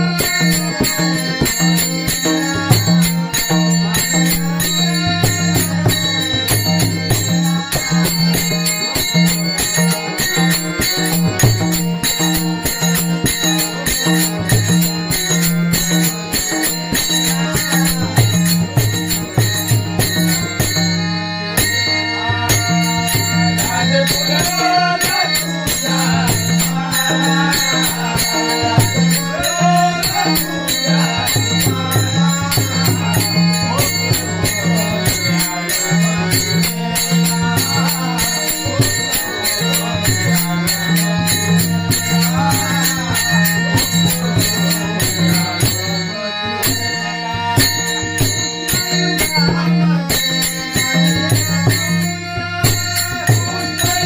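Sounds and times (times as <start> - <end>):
hand cymbals jingling: 0.0 - 54.0
wavering melody: 0.0 - 54.0.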